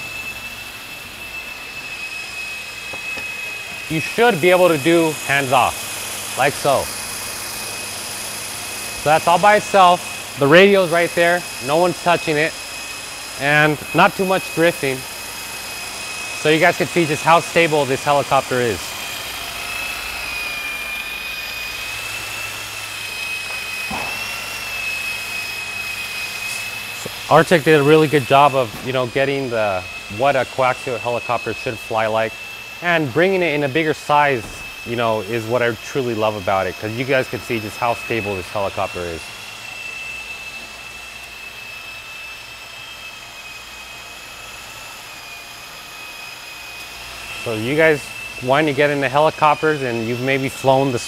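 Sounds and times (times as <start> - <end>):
high whine of electric motors: 0.0 - 51.0
whir of rotors: 0.0 - 51.0.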